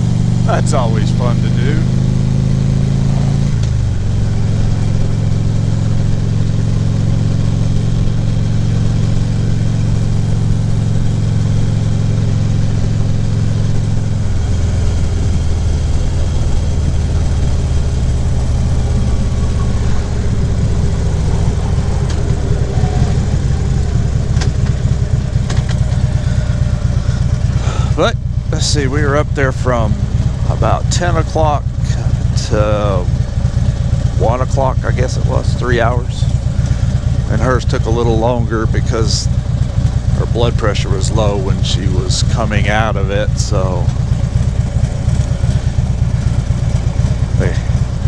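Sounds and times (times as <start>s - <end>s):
motorcycle engine running: 0.0s - 48.0s
road noise: 0.0s - 48.0s.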